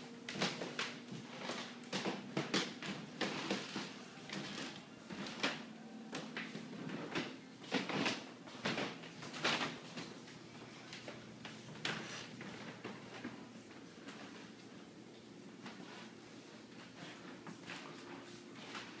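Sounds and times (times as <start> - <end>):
faint steady hum: 0.0 - 19.0
footsteps on hardwood floor: 0.3 - 19.0.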